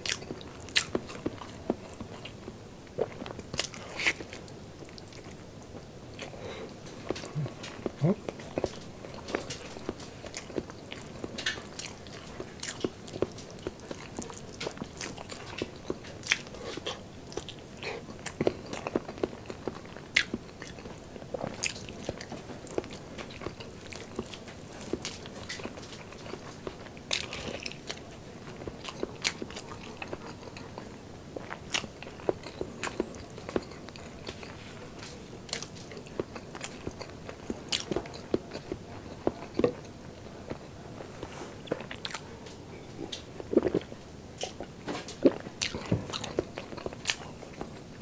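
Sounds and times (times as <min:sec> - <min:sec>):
close wet chewing: 0:00.0 - 0:40.7, 0:41.6 - 0:48.0.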